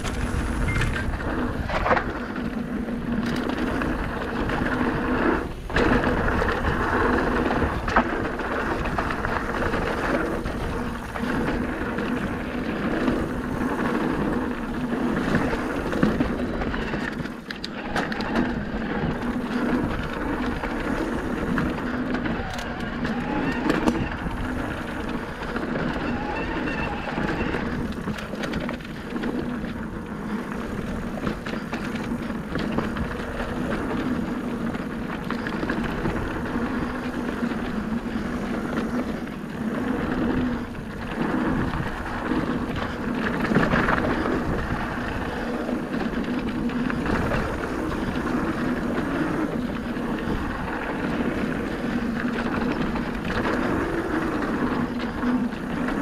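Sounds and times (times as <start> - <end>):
bike rattling: 0.0 - 56.0
wind on microphone: 0.0 - 56.0.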